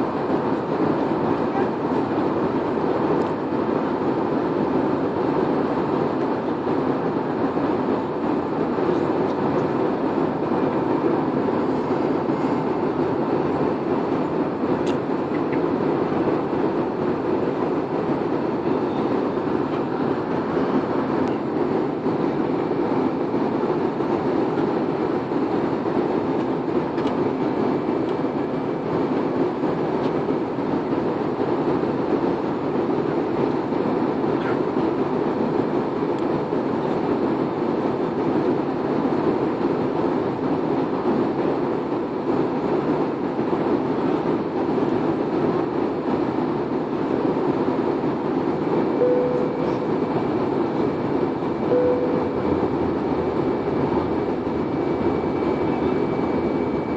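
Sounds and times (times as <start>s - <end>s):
airliner cabin engine noise: 0.0s - 56.9s.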